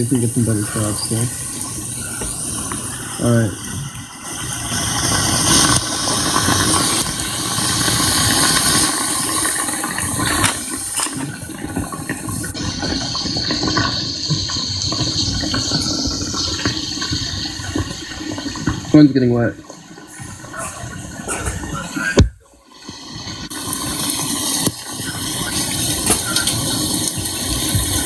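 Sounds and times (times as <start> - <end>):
rain taps on microphone: 0.0 - 4.1, 5.0 - 28.0
heavy rain pouring: 0.0 - 19.3, 23.1 - 28.0.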